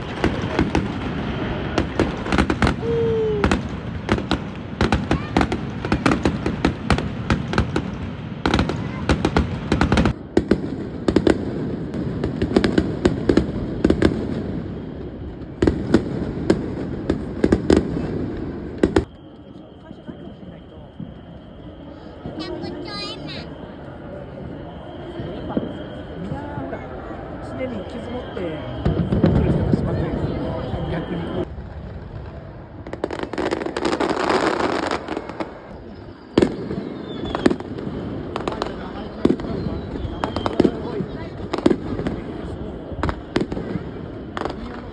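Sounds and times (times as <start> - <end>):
fireworks cracks and bangs: 0.0 - 23.6, 27.6 - 44.9
low rumble of fireworks: 0.0 - 44.9.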